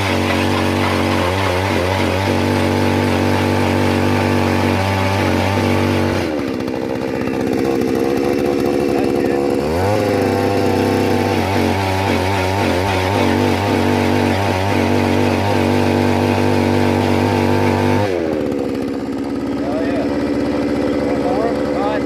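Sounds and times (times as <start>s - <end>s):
small gasoline engine running: 0.0s - 22.0s.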